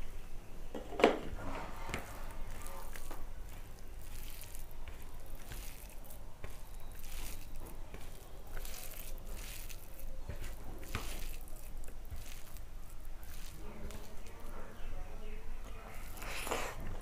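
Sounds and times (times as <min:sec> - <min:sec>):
fingers squishing rice: 0:01.4 - 0:17.0.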